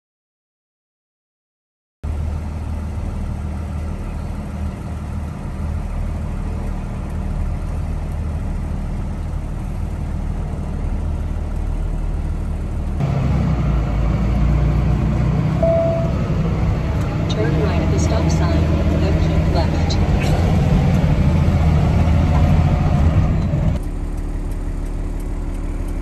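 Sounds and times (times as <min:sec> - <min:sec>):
truck engine hum from cab: 0:02.0 - 0:26.0.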